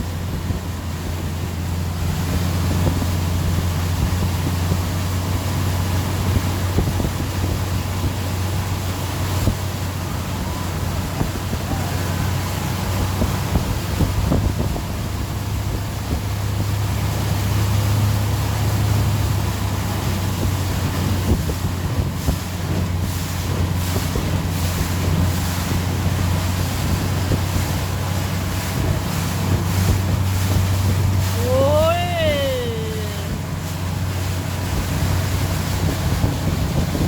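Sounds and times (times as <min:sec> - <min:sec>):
boat engine running: 0:00.0 - 0:37.0
water rushing past hull: 0:00.0 - 0:37.0
wind buffeting microphone: 0:00.0 - 0:37.0.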